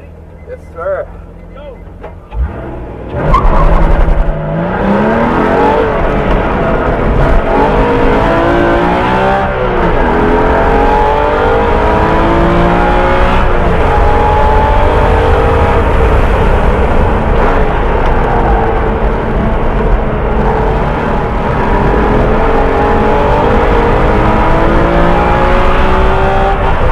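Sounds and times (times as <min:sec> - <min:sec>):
car engine accelerating hard: 0:02.3 - 0:26.9.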